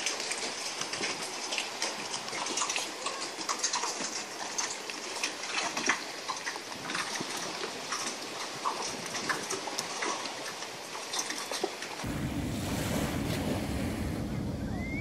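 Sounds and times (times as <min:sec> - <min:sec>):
water lapping against boat hulls: 0:00.0 - 0:15.0.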